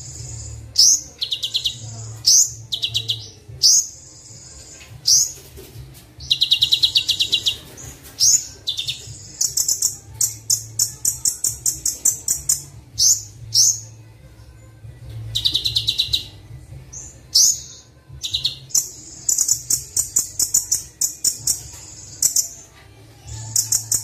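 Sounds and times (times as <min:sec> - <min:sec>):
bird chirping song: 0:00.0 - 0:24.0.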